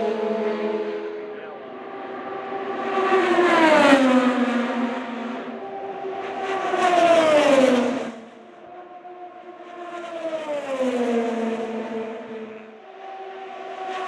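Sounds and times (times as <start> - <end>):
race cars passing at speed: 0.0 - 14.0.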